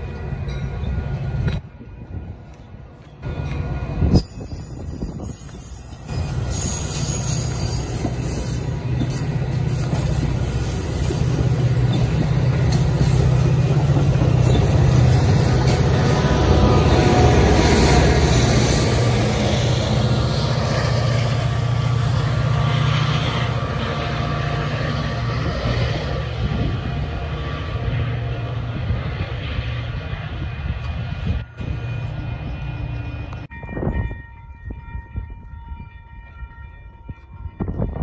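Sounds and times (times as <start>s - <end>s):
train rumbling past on rails: 0.0s - 38.0s.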